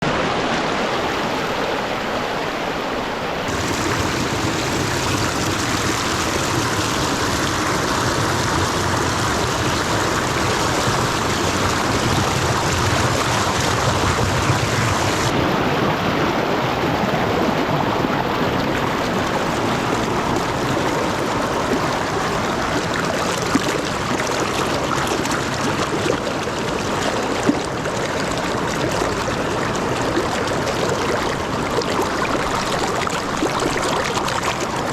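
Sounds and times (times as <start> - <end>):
white water rushing over rocks: 0.0 - 34.9.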